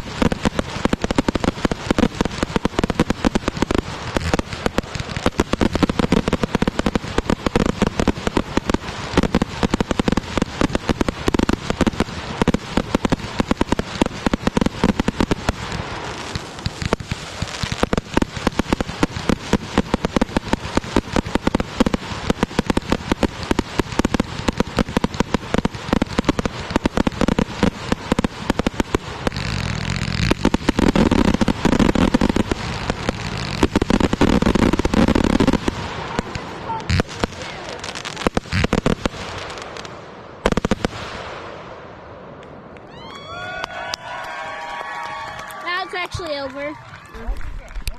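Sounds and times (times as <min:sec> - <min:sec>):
fireworks popping and crackling: 0:00.0 - 0:47.9.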